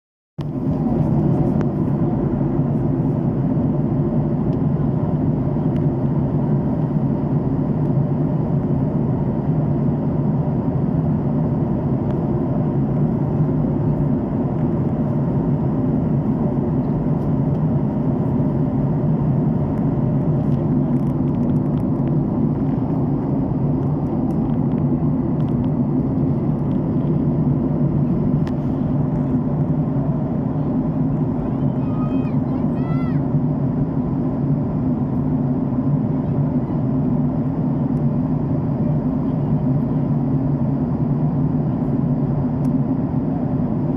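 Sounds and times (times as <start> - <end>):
airplane engine drone: 0.4 - 43.9.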